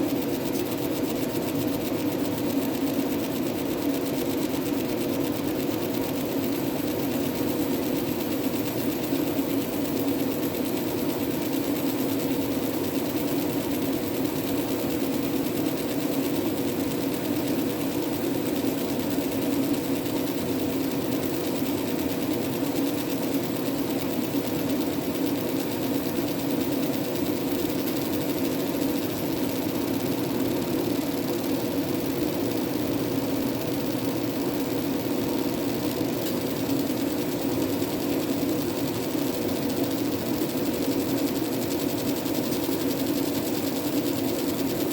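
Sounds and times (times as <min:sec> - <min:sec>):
laser engraver buzzing hum: 0:00.0 - 0:44.9.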